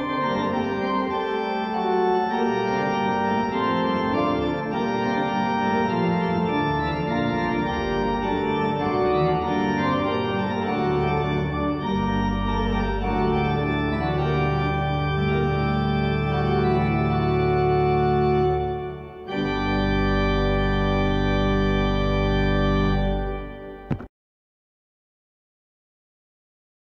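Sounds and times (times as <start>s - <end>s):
pipe organ playing: 0.0s - 24.0s.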